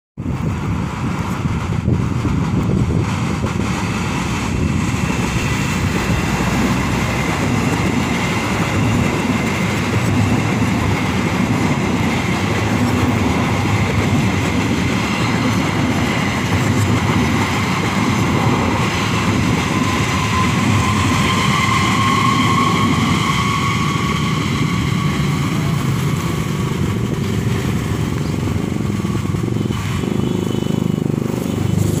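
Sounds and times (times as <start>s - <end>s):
passenger train rumbling past: 0.2s - 32.0s
high whining tones: 2.7s - 30.6s.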